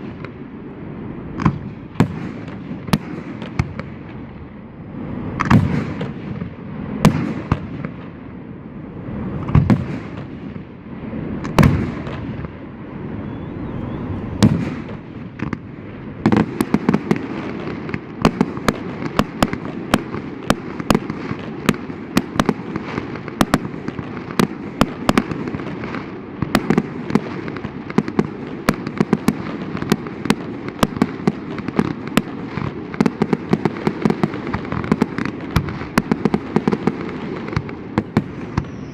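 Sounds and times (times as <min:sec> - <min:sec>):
fireworks cracks and booms: 0:00.0 - 0:13.2, 0:14.0 - 0:38.9
fireworks rumble: 0:00.0 - 0:38.9.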